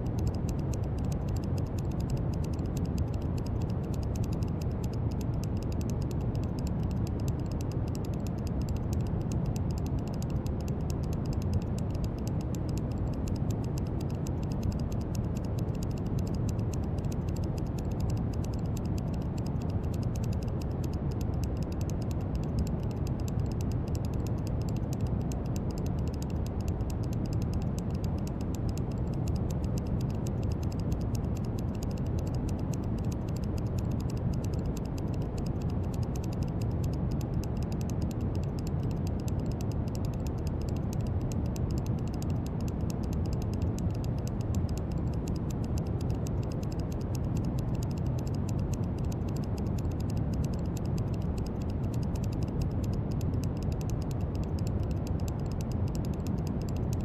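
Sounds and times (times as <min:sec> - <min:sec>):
fine crackle of tiny clicks: 0:00.0 - 0:57.0.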